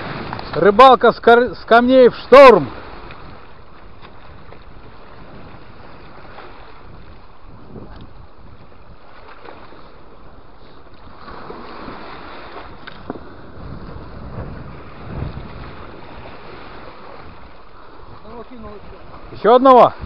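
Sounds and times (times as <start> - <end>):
waves washing against rocks: 0.0 - 20.0
wind buffeting microphone: 0.0 - 20.0.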